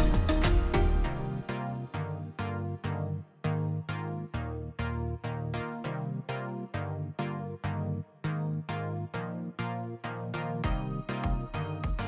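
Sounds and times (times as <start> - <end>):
electronic music with synth pulse: 0.0 - 12.0.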